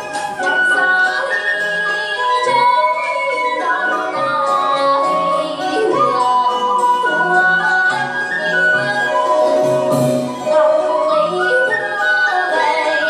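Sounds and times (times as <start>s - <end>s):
traditional instrumental accompaniment: 0.0s - 13.0s.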